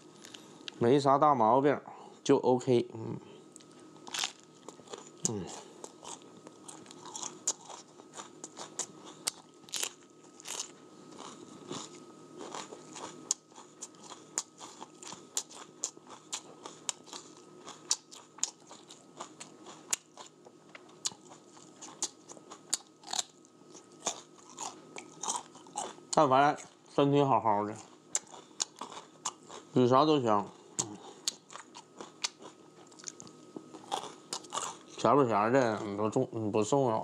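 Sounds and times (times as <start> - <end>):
person chewing crunchy food: 3.5 - 26.8, 27.7 - 35.0.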